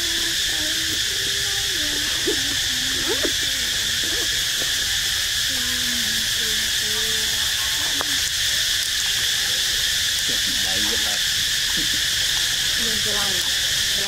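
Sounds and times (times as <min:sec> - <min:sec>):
faint low hooting calls: 0:00.0 - 0:14.0
steady high hiss: 0:00.0 - 0:14.0.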